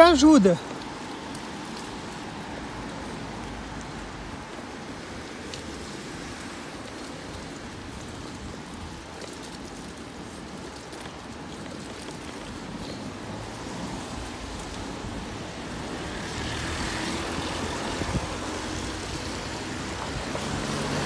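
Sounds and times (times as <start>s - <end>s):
tyres hissing on wet asphalt: 0.0s - 21.0s
wind rush from riding: 0.6s - 21.0s.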